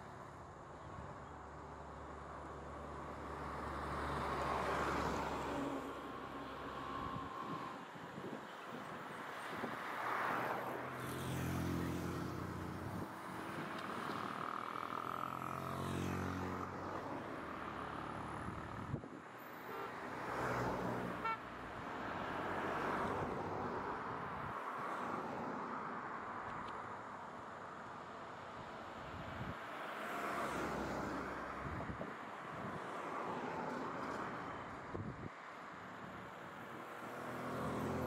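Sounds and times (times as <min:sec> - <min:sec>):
cars going by: 0:01.5 - 0:38.0.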